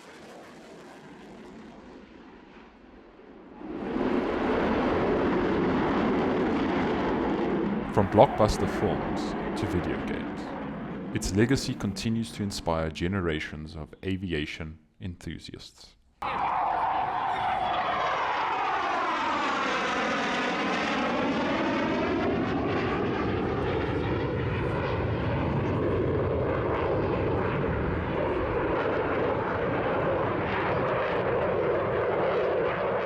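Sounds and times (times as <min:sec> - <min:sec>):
jet flying past: 0:00.0 - 0:12.4, 0:16.2 - 0:33.0.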